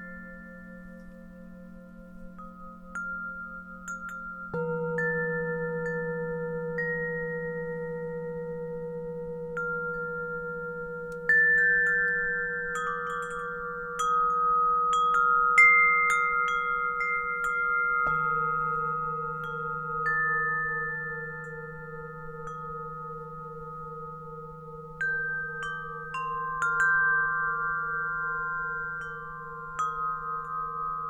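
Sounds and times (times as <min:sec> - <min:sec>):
singing bowl humming: 0:00.0 - 0:31.0
wind chimes ringing: 0:00.0 - 0:31.0.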